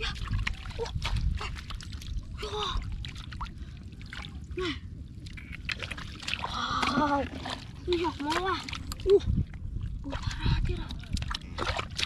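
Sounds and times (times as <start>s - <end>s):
low rumble: 0.0s - 12.0s
muddy water splashing: 0.0s - 12.0s.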